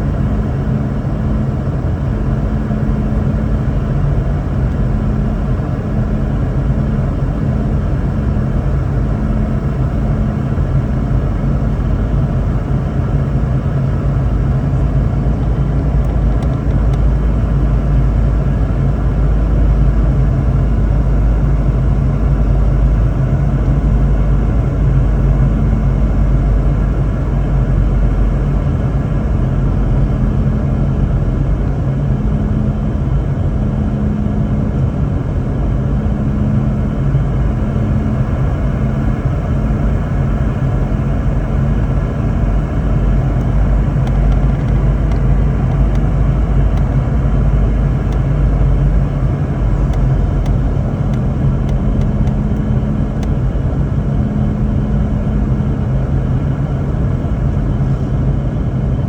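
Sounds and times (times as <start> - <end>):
airplane cabin rumble: 0.0 - 59.0
low engine hum: 0.0 - 59.0.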